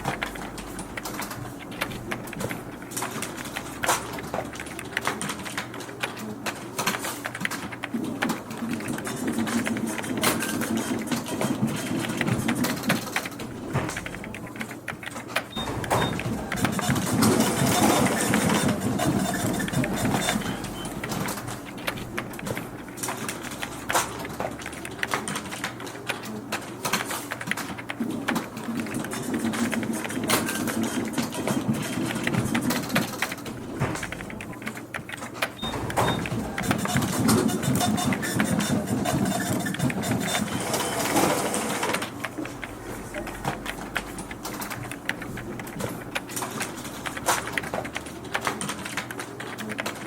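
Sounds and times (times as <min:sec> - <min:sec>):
keys clicking: 0:00.0 - 0:50.0
office machine whirring: 0:00.0 - 0:50.0.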